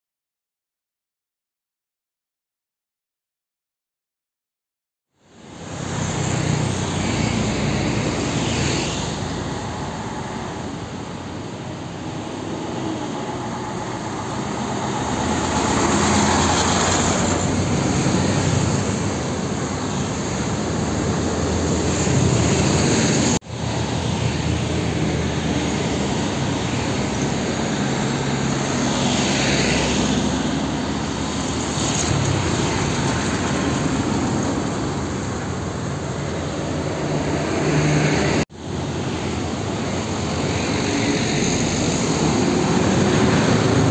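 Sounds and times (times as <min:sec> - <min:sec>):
trucks and motorbikes passing: 0:05.3 - 0:43.9.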